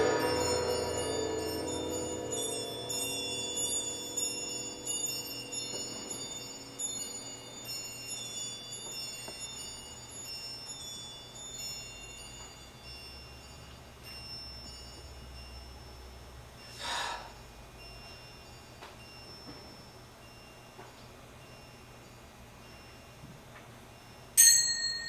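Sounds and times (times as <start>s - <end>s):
lower ringing tone: 0.0s - 25.0s
metal chimes ringing: 0.0s - 25.0s.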